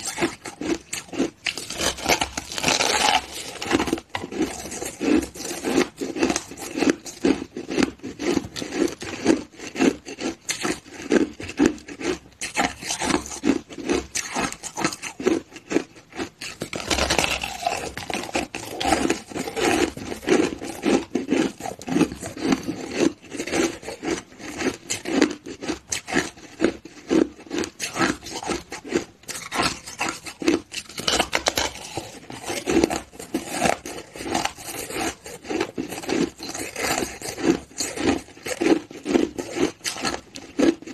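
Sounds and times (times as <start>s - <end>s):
person crunching ice: 0.0s - 40.9s.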